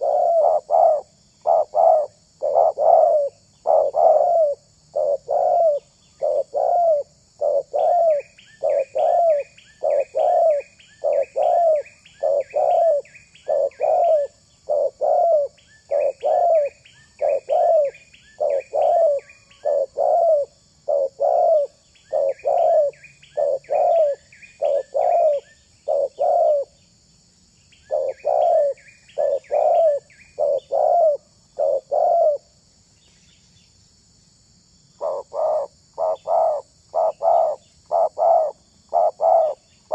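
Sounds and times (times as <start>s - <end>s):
dove cooing: 0.0s - 26.7s, 27.9s - 32.5s, 35.0s - 39.9s
small bird chirping: 0.0s - 33.9s, 34.8s - 39.9s.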